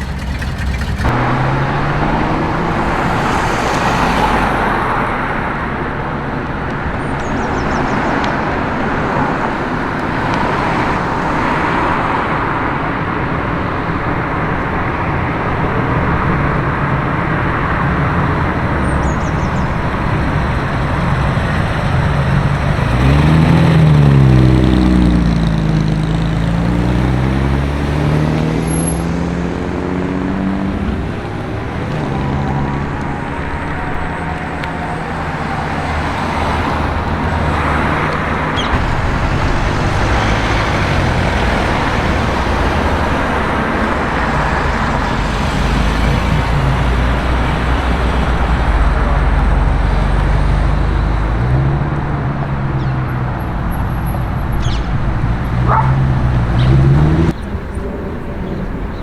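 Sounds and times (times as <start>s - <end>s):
car engine accelerating: 0.0s - 59.0s
road traffic passing: 0.0s - 59.0s.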